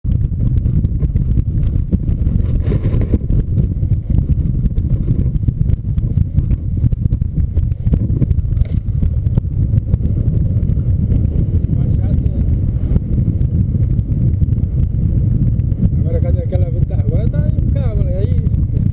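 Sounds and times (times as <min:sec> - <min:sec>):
wind buffeting microphone: 0:00.0 - 0:18.9.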